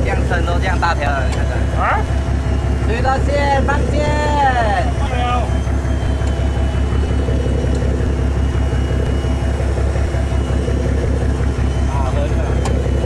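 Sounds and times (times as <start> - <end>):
boat engine droning: 0.0 - 13.0
faint high whine: 0.0 - 13.0.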